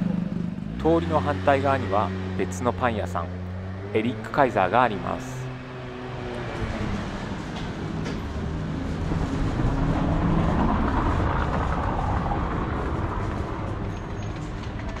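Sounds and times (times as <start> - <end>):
traffic noise: 0.0 - 15.0
vehicle passing by: 0.0 - 15.0.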